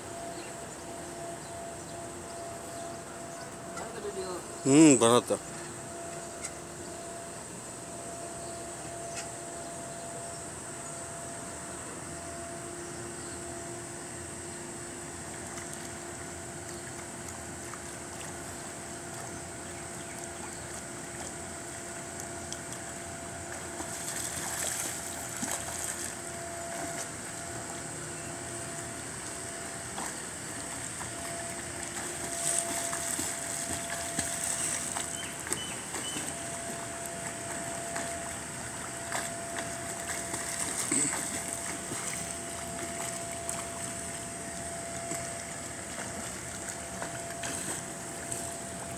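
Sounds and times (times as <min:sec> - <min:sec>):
faint steady hum: 0:00.0 - 0:48.9
pool water splashing: 0:00.0 - 0:48.9.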